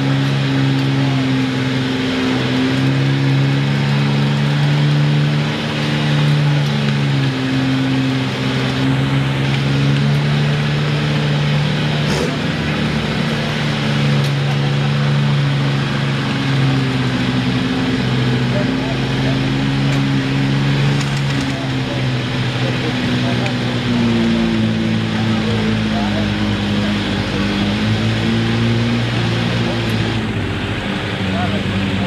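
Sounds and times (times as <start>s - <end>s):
truck engine at high revs: 0.0s - 32.0s.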